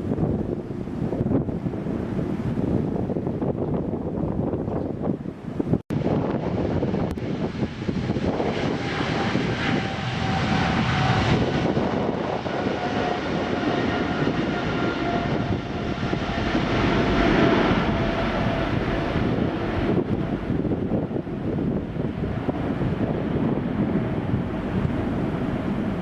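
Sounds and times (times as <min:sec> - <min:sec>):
jet engine rush: 0:00.0 - 0:26.0.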